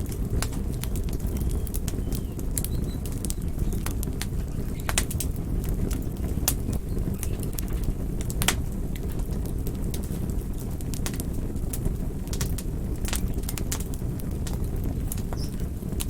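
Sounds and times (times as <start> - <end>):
burning wood crackling and popping: 0.0 - 16.0
fire flames rumbling: 0.0 - 16.0.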